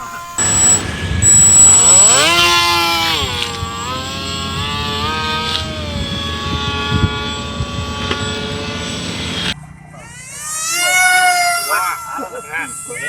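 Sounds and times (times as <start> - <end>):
model airplane motor buzzing whine: 0.0 - 11.7.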